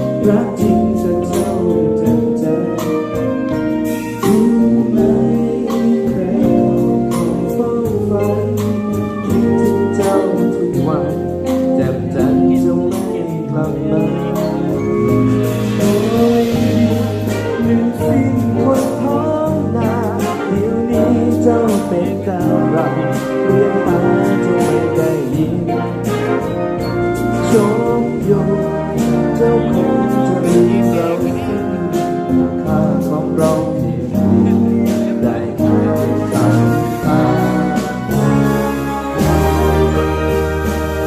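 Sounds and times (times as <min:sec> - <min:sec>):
band playing a song: 0:00.0 - 0:41.0
person singing: 0:00.0 - 0:41.0.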